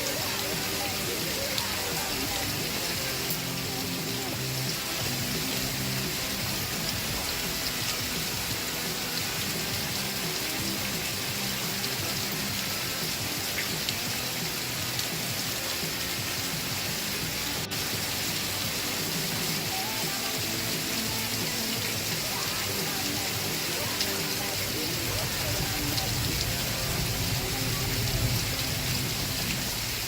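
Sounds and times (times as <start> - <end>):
muffled pop song: 0.0 - 30.0
rain hiss: 0.0 - 30.0.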